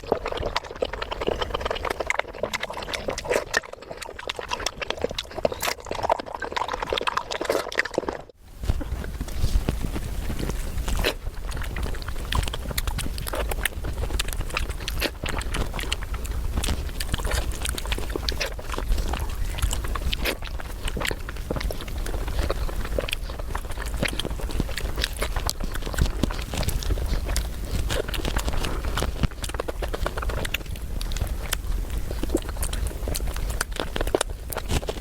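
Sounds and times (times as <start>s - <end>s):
close chewing with wet clicks: 0.0s - 35.0s.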